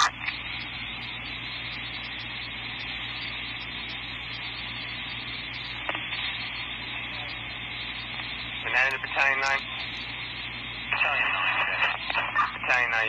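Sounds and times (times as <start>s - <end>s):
low hum: 0.0s - 12.9s
radio hiss: 0.0s - 13.0s.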